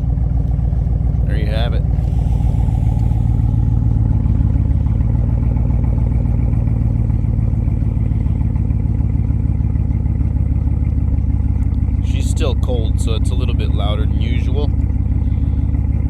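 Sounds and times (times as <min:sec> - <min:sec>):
loud deep engine idling: 0:00.0 - 0:16.0.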